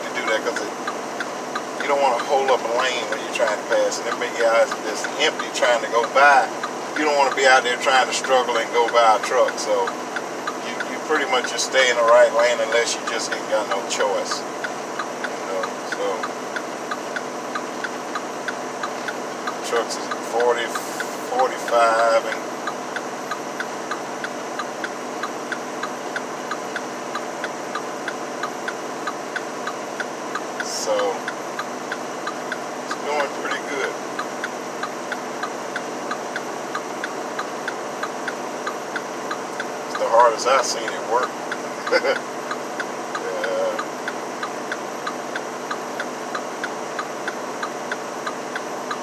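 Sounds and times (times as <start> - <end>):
light even ticking: 0.0 - 49.0
truck engine and road noise: 0.0 - 49.0.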